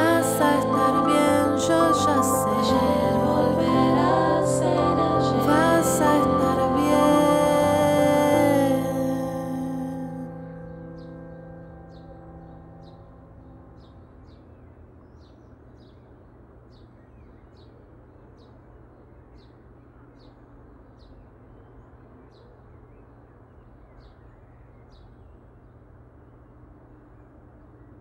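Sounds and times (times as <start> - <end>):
low outdoor hum: 0.0 - 28.0.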